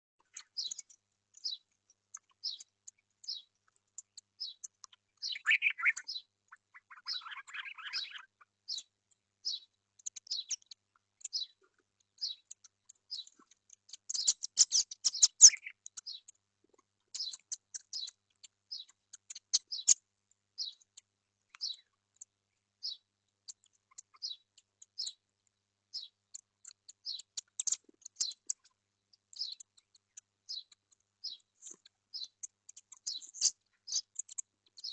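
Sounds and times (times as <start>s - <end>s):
small birds chirping: 0.0s - 34.9s
bird chatter: 0.2s - 34.9s.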